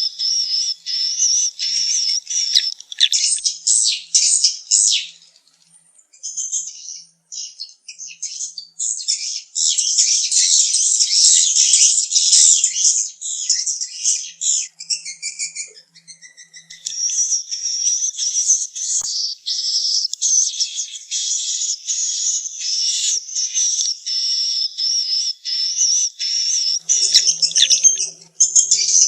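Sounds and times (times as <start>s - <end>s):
birds twittering: 0.0s - 29.0s.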